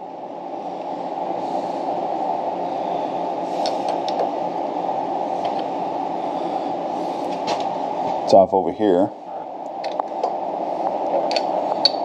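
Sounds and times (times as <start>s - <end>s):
low rushing background noise: 0.0s - 12.0s.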